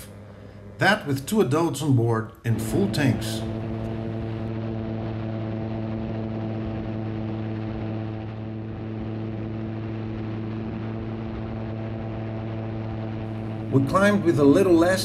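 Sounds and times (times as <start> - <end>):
aircraft engine and propeller drone: 0.0 - 15.0.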